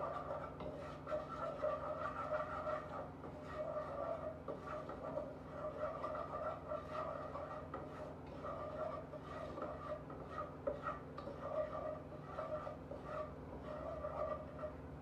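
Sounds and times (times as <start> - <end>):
roux bubbling in a pan: 0.0 - 15.0
utensil scraping a pan: 0.0 - 15.0.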